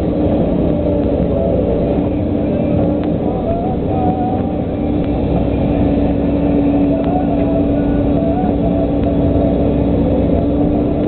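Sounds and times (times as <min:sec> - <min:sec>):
excavator diesel engine running: 0:00.0 - 0:11.0
high wavering whine: 0:00.0 - 0:11.0.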